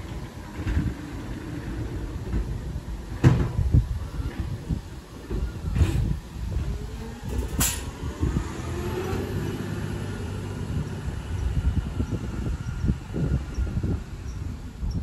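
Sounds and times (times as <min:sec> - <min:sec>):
garbage truck engine rumbling: 0:00.0 - 0:15.0.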